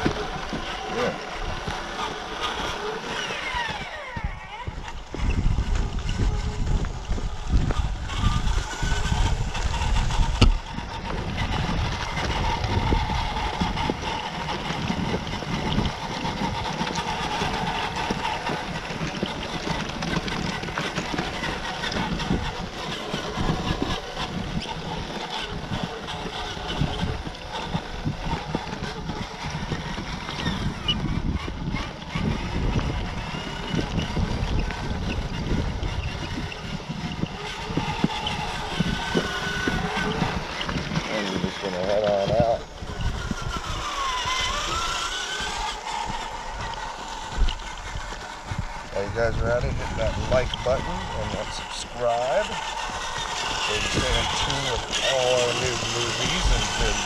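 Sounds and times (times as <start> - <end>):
electric toy truck whining: 0.0 - 57.0
wind on microphone: 0.0 - 57.0.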